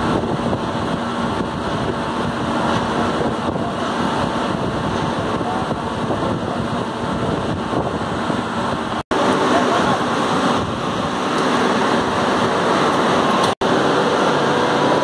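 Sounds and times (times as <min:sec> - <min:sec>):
industrial machinery rumble and hiss: 0:00.0 - 0:15.0.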